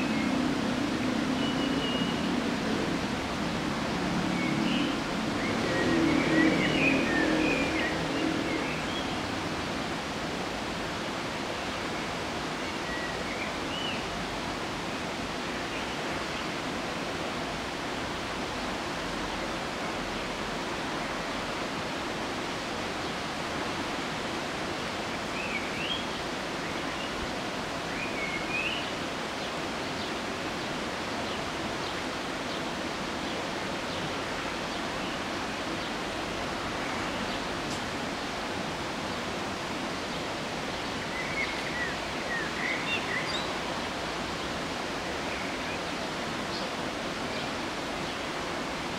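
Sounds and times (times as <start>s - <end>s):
steady rushing outdoor noise: 0.0s - 48.9s.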